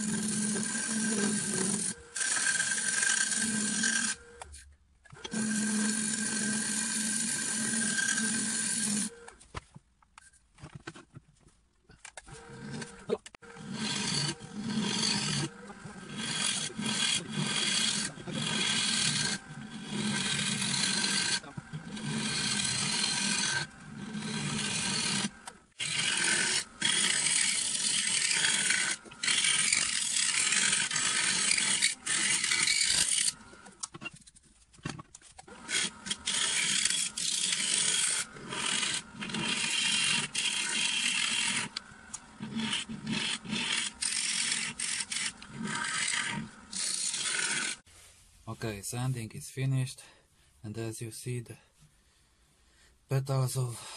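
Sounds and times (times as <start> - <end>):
lathe tool scraping wood: 0.0 - 9.4, 12.2 - 48.0.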